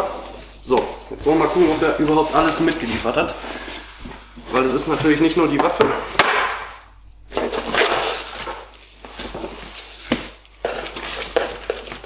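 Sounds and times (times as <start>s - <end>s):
cardboard and wicker rustling: 0.0s - 6.2s, 7.3s - 12.0s.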